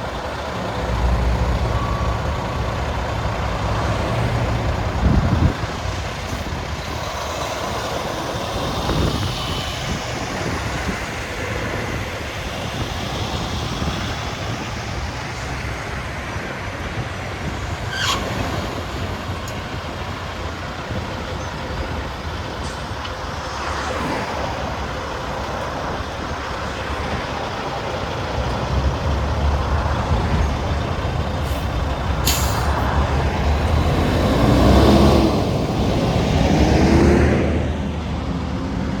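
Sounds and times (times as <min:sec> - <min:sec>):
road noise: 0:00.0 - 0:39.0
truck engines rumbling: 0:00.0 - 0:39.0.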